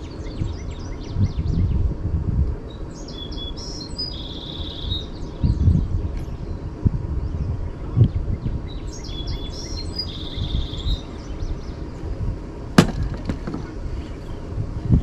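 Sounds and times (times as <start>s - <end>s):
small birds chirping: 0.0s - 12.6s, 13.6s - 14.7s
low steady rumble: 0.0s - 15.0s.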